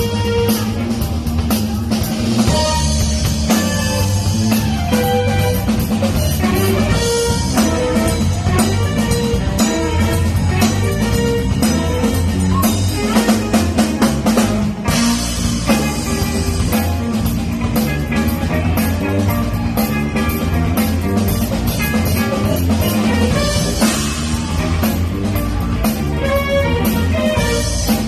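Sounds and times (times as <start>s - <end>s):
band playing funk: 0.0s - 28.0s
drum kit: 0.0s - 28.0s
guitar: 0.0s - 28.0s
low bass line: 0.0s - 28.0s.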